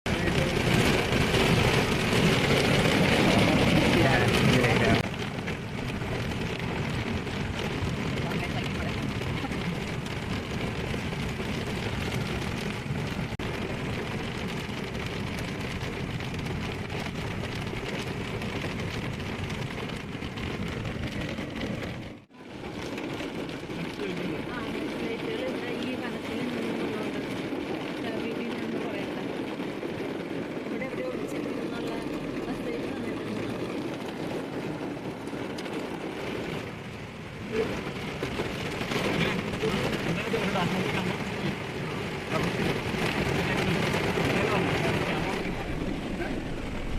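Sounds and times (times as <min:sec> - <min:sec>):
rain on car: 0:00.0 - 0:46.9
tyres on wet road: 0:00.0 - 0:46.9.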